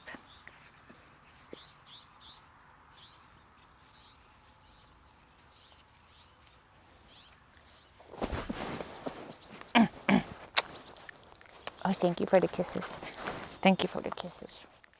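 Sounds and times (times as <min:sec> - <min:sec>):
small bird chirping: 0:01.4 - 0:14.7.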